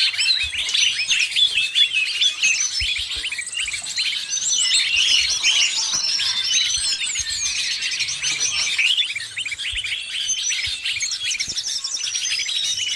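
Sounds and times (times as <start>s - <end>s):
many small birds chirping: 0.0s - 12.9s.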